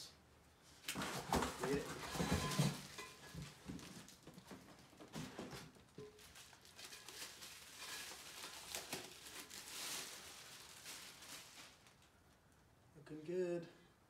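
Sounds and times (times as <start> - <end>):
packaging rustling and crinkling: 0.8 - 12.6.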